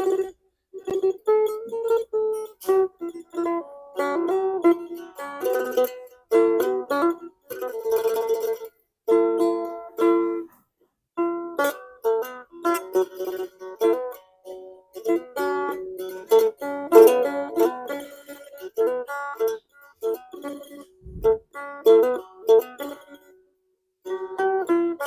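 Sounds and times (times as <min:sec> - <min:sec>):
plucked lute: 0:00.0 - 0:25.0.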